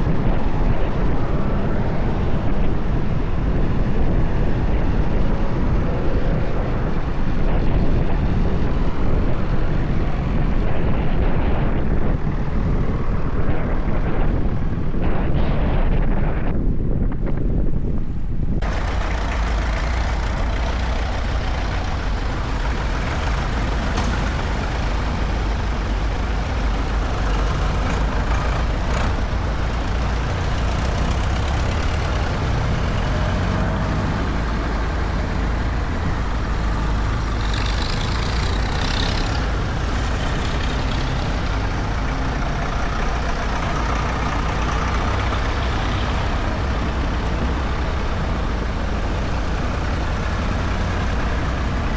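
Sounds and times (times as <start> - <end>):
tractor engines rumbling: 0.0 - 17.1, 17.8 - 51.9.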